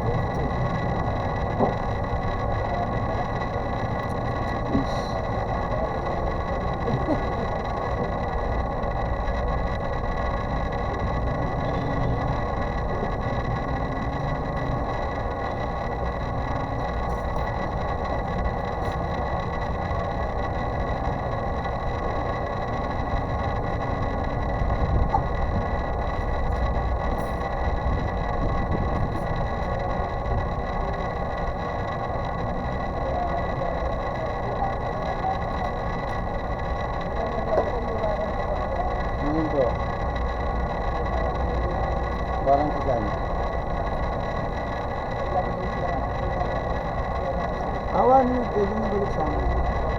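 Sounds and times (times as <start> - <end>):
mechanical hum with whining tones: 0.0 - 49.9.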